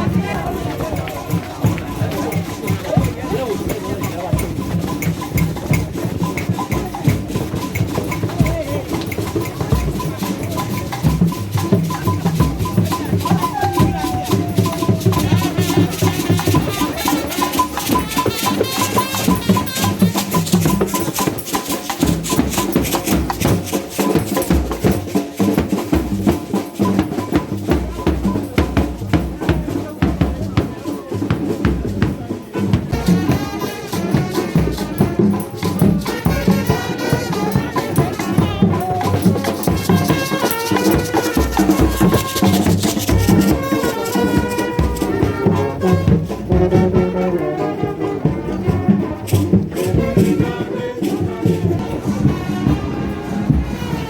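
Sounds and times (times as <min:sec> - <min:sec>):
percussion music with drums: 0:00.0 - 0:54.0
voices: 0:00.0 - 0:54.0.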